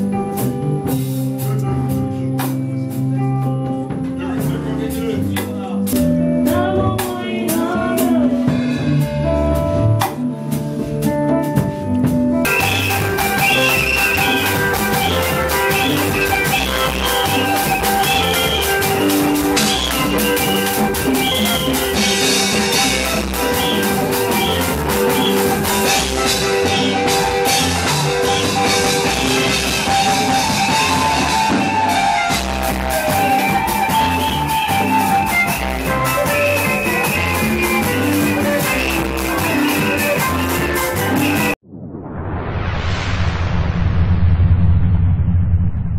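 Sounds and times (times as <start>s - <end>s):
praise band music: 0.0s - 41.6s.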